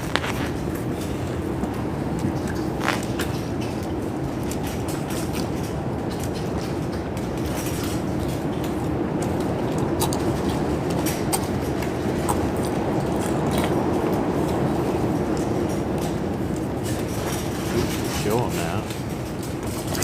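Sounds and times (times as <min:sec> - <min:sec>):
storm wind rumbling: 0:00.0 - 0:20.0.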